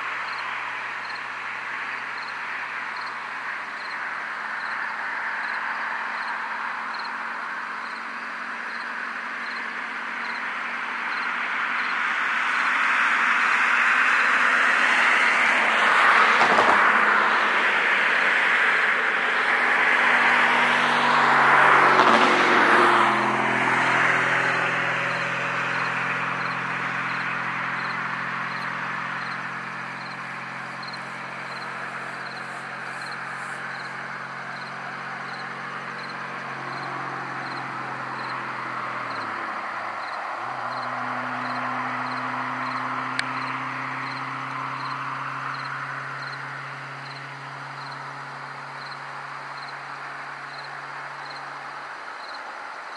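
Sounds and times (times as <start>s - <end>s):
car passing: 0.0s - 52.9s
crickets chirping: 0.0s - 52.9s
low engine hum: 0.0s - 52.9s.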